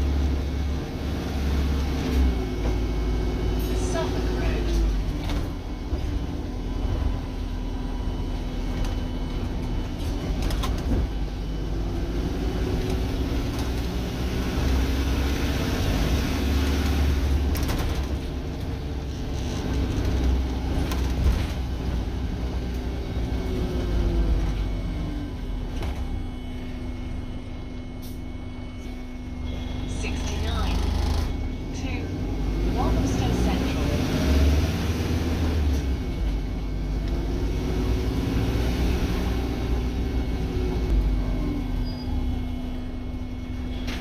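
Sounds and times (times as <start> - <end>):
bus drive whine: 0.0 - 44.0
bus engine and road rumble: 0.0 - 44.0.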